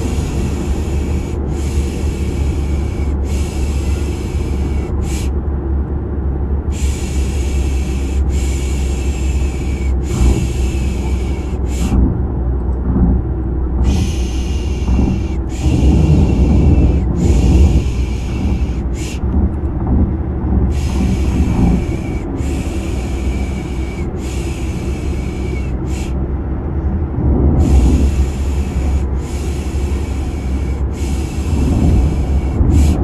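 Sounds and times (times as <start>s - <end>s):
shushing hisses: 0.0s - 5.4s, 6.7s - 12.0s, 13.8s - 19.2s, 20.7s - 26.2s, 27.6s - 33.0s
car cabin road noise: 0.0s - 33.0s.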